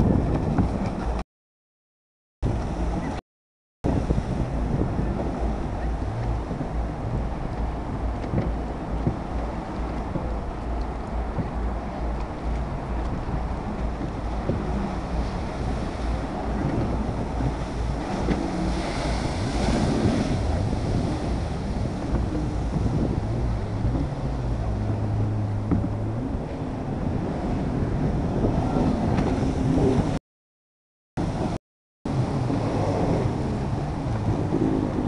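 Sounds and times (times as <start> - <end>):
waves and spray: 0.0 - 1.2, 2.4 - 3.2, 3.8 - 30.2, 31.2 - 35.0
wind noise on microphone: 0.0 - 1.2, 2.4 - 3.2, 3.8 - 30.2, 31.2 - 35.0
jet ski engine running: 3.9 - 30.2, 32.1 - 35.0.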